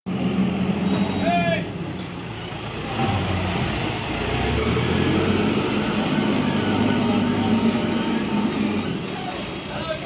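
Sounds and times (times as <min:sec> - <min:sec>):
street traffic noise: 0:00.1 - 0:10.0.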